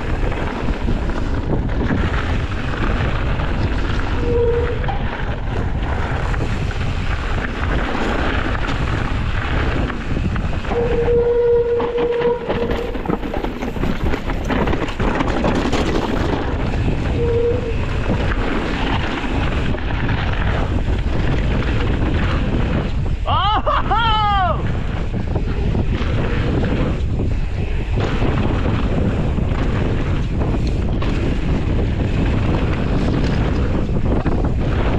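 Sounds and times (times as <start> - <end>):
tyres rolling over dirt and rocks: 0.0 - 23.8, 24.6 - 34.9
bike rattling: 0.0 - 34.9
wind buffeting microphone: 0.0 - 34.9.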